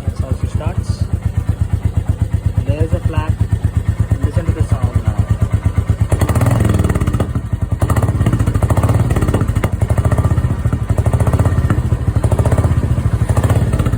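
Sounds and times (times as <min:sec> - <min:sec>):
engine throttle blips: 0:00.0 - 0:13.9
motorcycle engine idling: 0:00.0 - 0:13.9.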